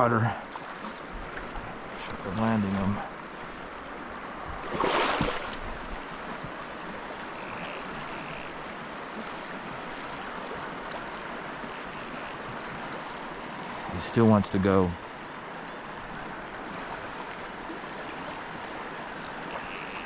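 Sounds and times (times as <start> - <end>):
river water flowing over rocks: 0.0 - 20.0.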